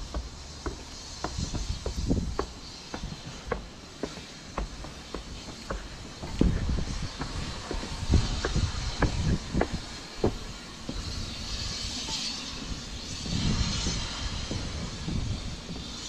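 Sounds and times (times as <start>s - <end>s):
footsteps on wooden planks: 0.0s - 16.0s
steady hiss with low rumble: 0.0s - 16.0s.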